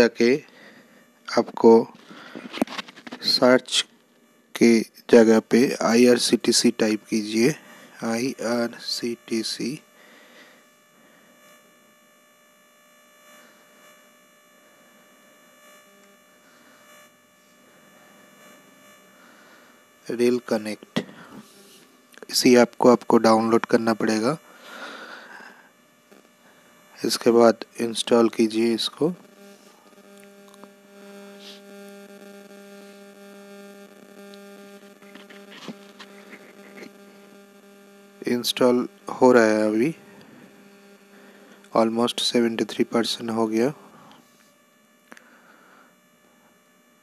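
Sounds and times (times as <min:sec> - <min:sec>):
faint electrical hum and hiss: 0:00.0 - 0:47.0.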